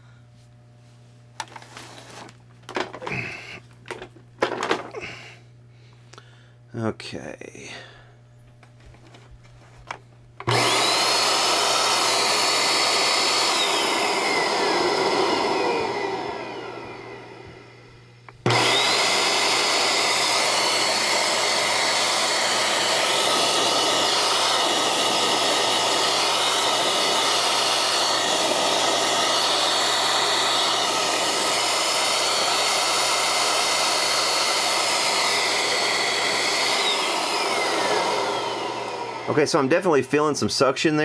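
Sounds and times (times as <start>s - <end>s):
vacuum motor whining: 1.4s - 5.3s, 8.8s - 39.8s.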